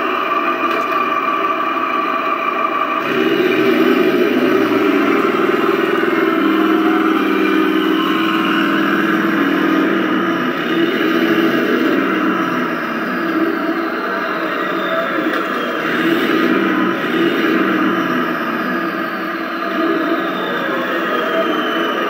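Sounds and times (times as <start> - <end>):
simulated tank engine sound: 0.0 - 22.0.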